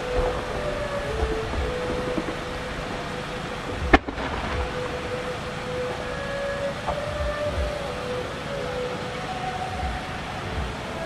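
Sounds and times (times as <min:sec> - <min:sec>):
faint steady tone: 0:00.0 - 0:11.0.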